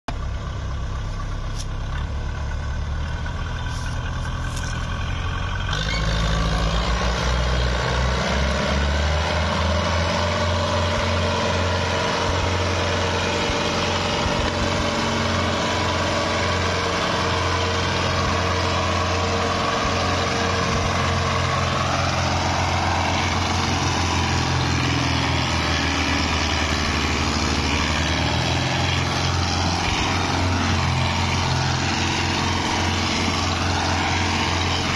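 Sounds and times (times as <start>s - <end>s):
tractor diesel engine labouring: 0.1s - 34.9s.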